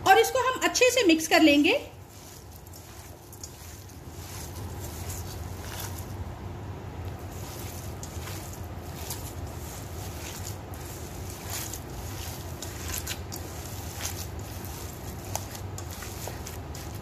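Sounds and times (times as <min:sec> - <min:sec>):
steady low hum: 0:00.0 - 0:17.0
wet squishing of minced meat: 0:01.6 - 0:06.3, 0:07.0 - 0:17.0.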